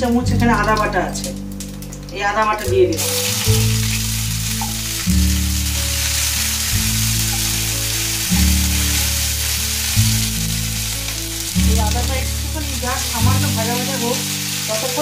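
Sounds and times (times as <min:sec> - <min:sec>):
background music with sustained chords: 0:00.0 - 0:15.0
paste sizzling in hot oil: 0:03.0 - 0:15.0.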